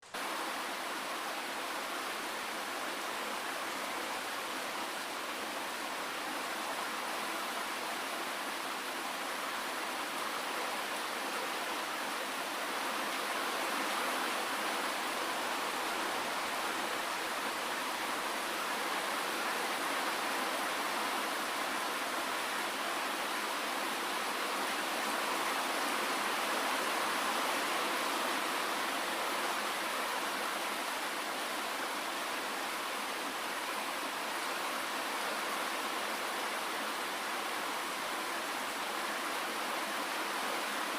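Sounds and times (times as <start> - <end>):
steady rainfall hiss: 0.0 - 40.9.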